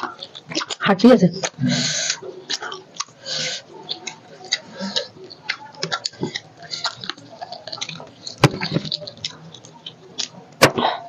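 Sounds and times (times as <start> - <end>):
people chewing chicken: 0.0 - 11.0.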